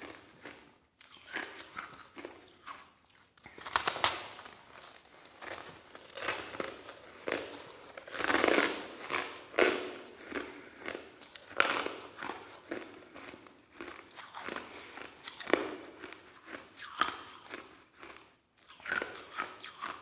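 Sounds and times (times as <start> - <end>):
person chewing ice: 0.0 - 20.0.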